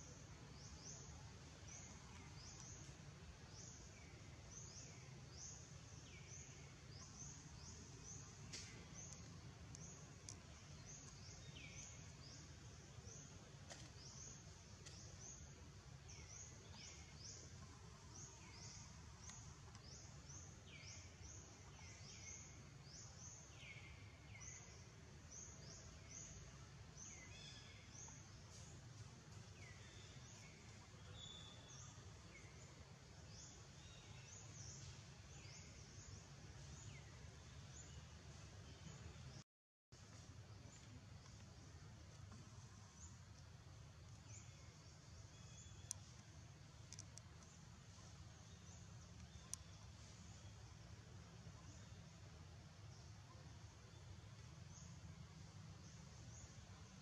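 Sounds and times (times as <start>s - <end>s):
birds chirping: 0.0s - 39.4s, 40.1s - 57.0s.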